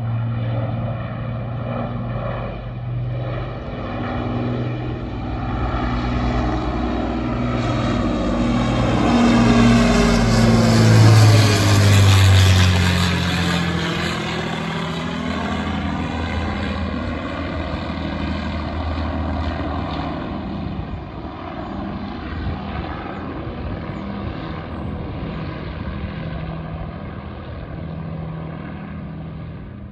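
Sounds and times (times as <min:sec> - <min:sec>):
aircraft engines droning: 0:00.0 - 0:29.9.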